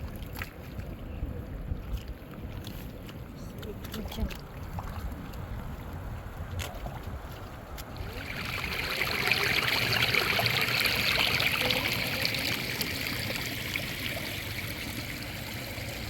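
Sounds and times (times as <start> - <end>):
running water trickling and splashing: 0.0 - 16.0.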